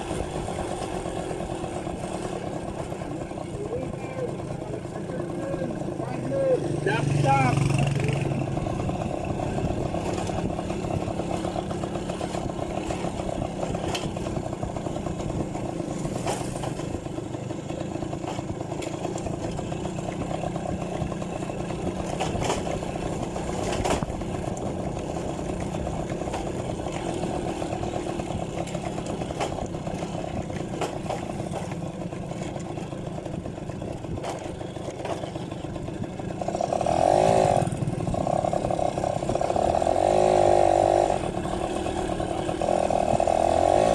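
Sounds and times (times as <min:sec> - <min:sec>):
two-stroke engine running: 0:00.0 - 0:43.9.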